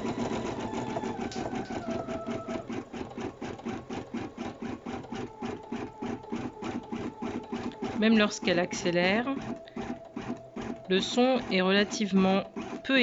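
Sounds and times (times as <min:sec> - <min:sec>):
embroidery machine needle strokes: 0:00.0 - 0:13.0
motor hum: 0:00.0 - 0:13.0.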